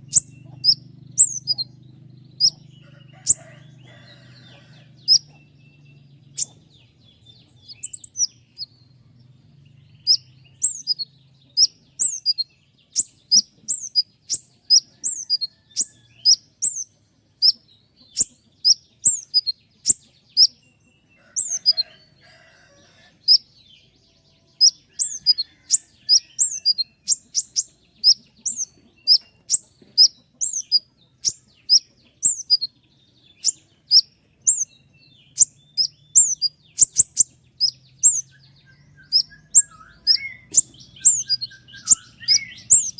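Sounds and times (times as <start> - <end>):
sunbird high chirps: 0.0 - 42.9.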